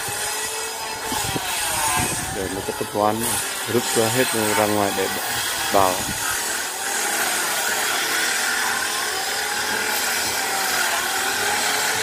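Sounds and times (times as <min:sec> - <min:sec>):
electric wood planer running: 0:00.0 - 0:12.0.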